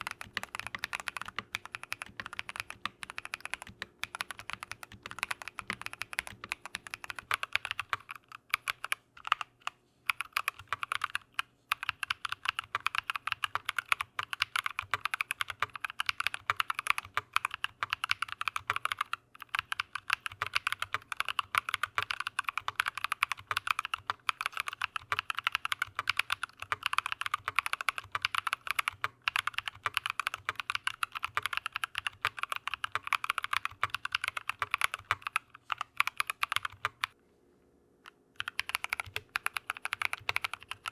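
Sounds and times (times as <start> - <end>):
typing on mechanical keyboard: 0.0 - 37.2, 38.4 - 40.9.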